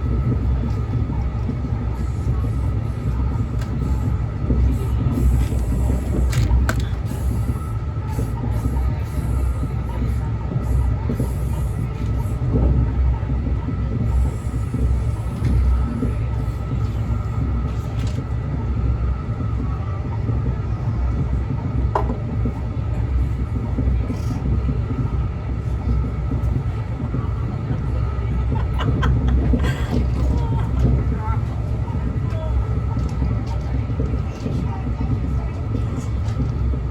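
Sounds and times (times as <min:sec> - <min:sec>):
train low rumble: 0:00.0 - 0:36.9.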